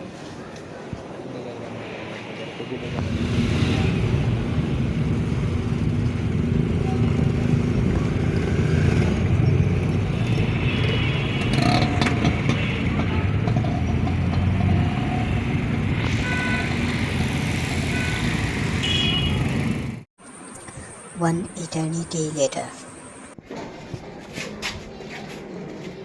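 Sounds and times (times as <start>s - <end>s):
vehicle engines rumbling: 0.0s - 23.4s.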